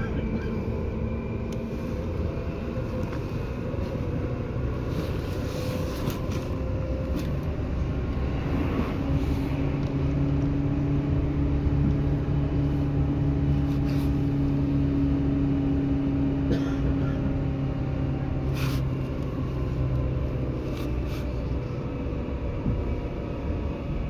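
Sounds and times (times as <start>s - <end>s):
low motor hum: 0.0s - 24.0s
train wheels rumbling on rail: 0.0s - 24.0s.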